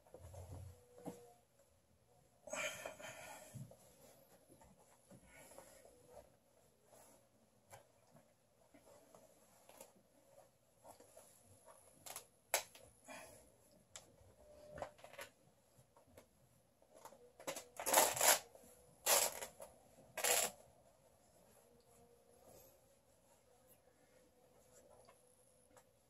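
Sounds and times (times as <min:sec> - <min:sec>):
cloth trousers rustling: 0:02.4 - 0:26.0.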